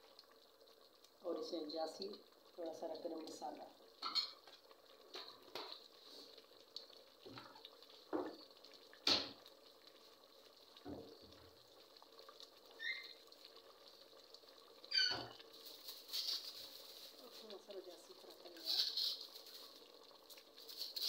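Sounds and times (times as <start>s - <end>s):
curry bubbling in a pot: 0.0s - 21.0s.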